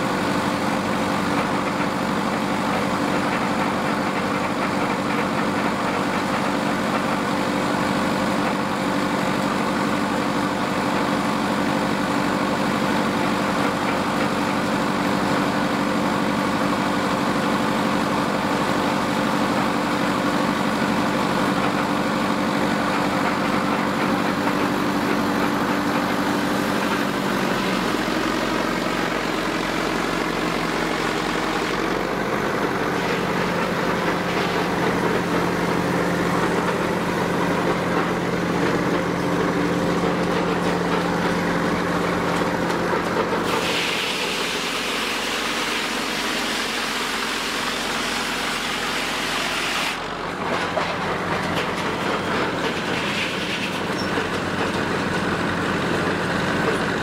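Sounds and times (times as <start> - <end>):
stationary engine running: 0.0 - 57.0.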